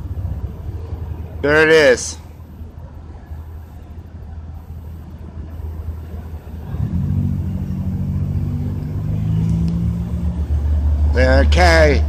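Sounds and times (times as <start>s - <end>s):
vehicle engine running: 0.0s - 1.6s, 2.3s - 12.0s
street traffic: 0.0s - 12.0s.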